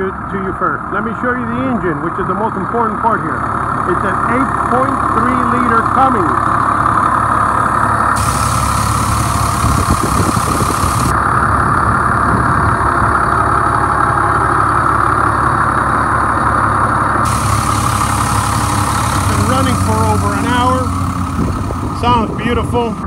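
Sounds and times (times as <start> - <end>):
diesel truck engine idling: 0.0 - 23.0.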